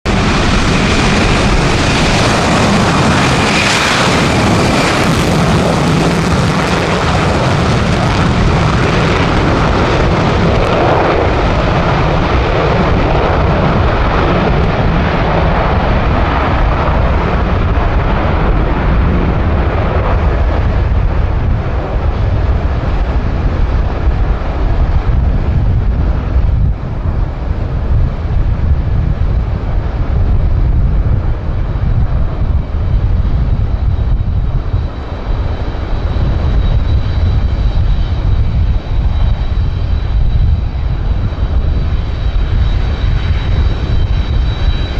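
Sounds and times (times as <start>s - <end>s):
jet engines roaring on takeoff: 0.0s - 44.9s.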